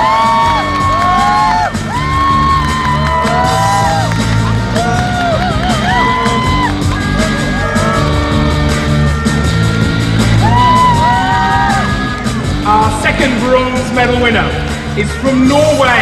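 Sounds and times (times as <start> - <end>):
steady bass line: 0.0 - 16.0.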